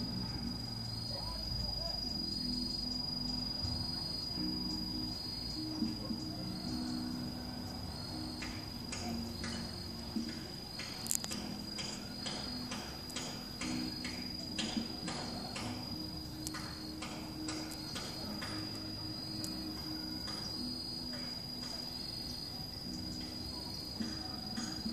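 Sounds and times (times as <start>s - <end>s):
insects clicking chirps: 0.0s - 24.9s
insects trilling: 0.0s - 24.9s.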